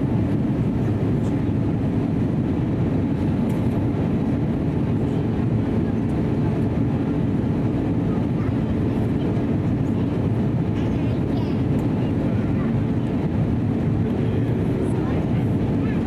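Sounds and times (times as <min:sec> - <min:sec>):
airplane cabin noise: 0:00.0 - 0:16.0.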